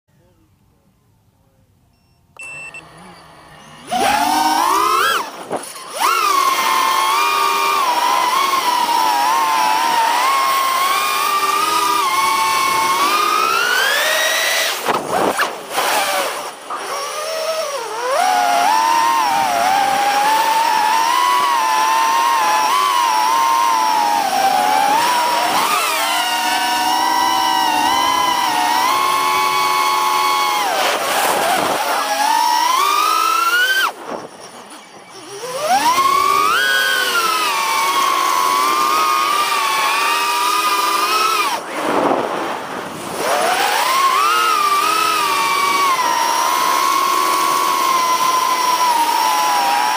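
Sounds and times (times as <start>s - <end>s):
quadcopter motors whining: 2.4s - 49.9s.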